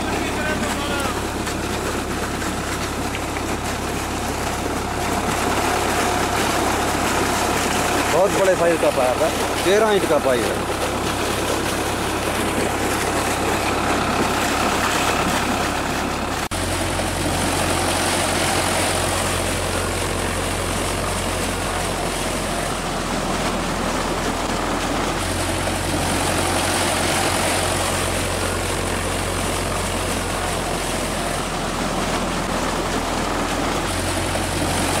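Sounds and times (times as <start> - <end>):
tractor diesel engine running: 0.0 - 35.0
water gushing from pipe: 0.0 - 35.0.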